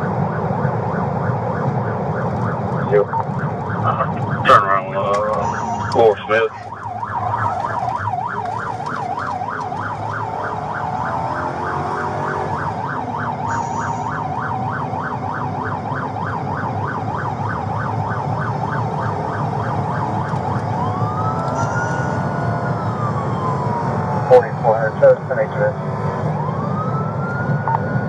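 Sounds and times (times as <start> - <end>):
engine and road noise: 0.0 - 28.0
police siren yelping: 0.0 - 28.0.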